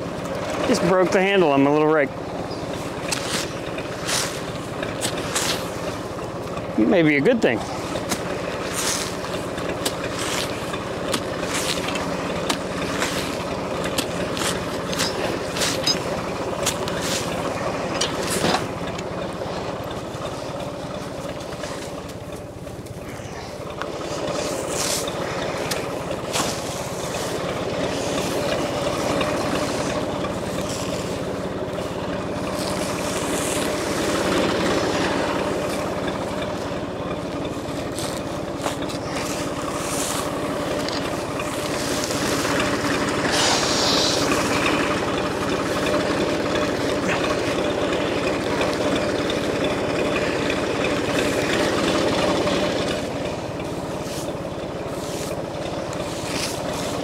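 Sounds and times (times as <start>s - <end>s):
diesel tractor idling: 0.0s - 57.0s
frozen hay scraping and crackling: 2.6s - 6.5s, 7.7s - 57.0s.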